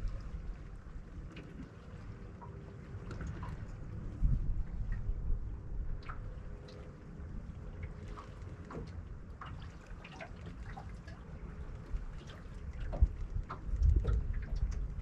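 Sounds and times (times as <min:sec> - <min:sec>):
water lapping against a hull: 0:00.0 - 0:15.0
wind rumble on microphone: 0:00.0 - 0:15.0.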